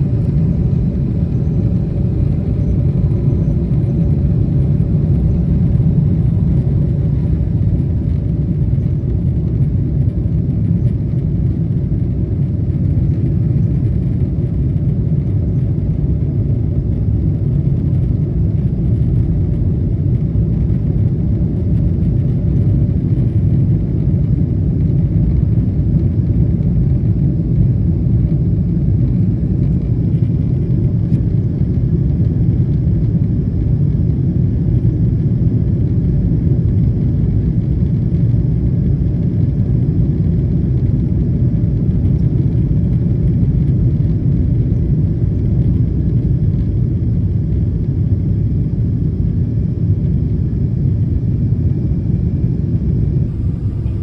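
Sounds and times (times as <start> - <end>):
airplane engine rumble: 0.0 - 54.0.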